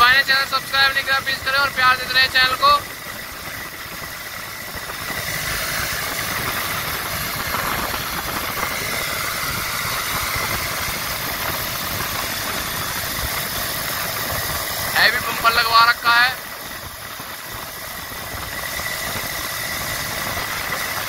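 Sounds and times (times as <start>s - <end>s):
road and wind noise: 0.0s - 21.0s
tractor diesel engine running: 0.0s - 21.0s.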